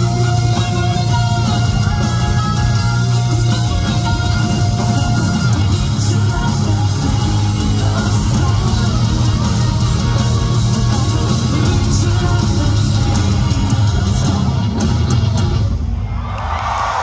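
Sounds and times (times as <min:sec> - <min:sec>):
live heavy rock band: 0:00.0 - 0:16.1
crowd cheering: 0:00.0 - 0:17.0.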